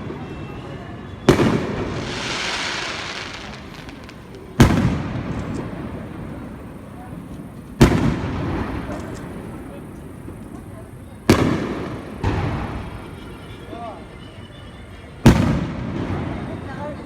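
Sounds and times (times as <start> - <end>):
fireworks booms: 0.0 - 13.4, 15.3 - 16.8
fireworks crackling hiss: 0.0 - 14.2.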